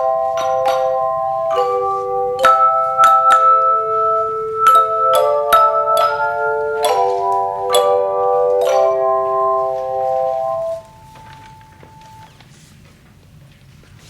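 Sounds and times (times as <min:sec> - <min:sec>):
tone chimes playing a carol: 0:00.0 - 0:12.3.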